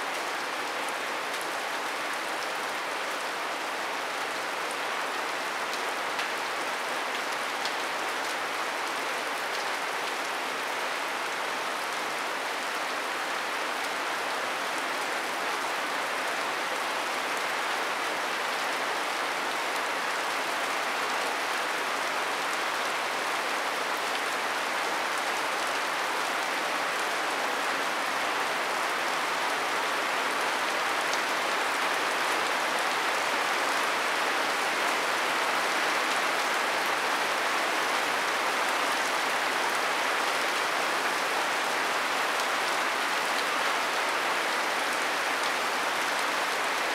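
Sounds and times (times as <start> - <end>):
rain on thatch roof: 0.0 - 46.9.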